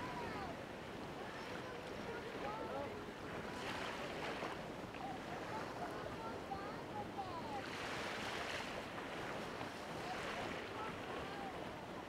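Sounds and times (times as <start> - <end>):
small waves washing ashore: 0.0 - 12.0.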